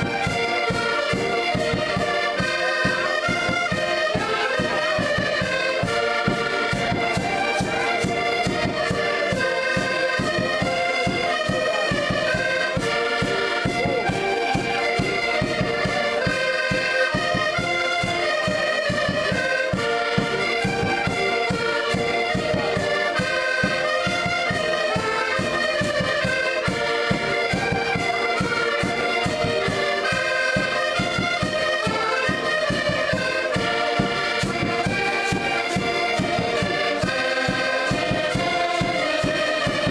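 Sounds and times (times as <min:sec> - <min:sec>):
button accordions playing: 0:00.0 - 0:39.9.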